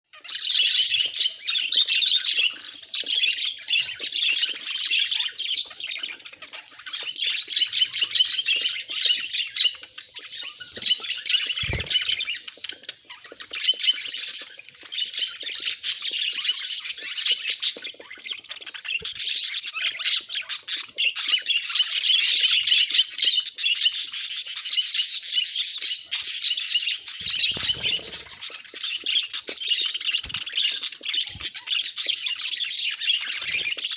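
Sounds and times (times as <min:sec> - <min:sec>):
budgerigars chattering and warbling: 0:00.2 - 0:33.9.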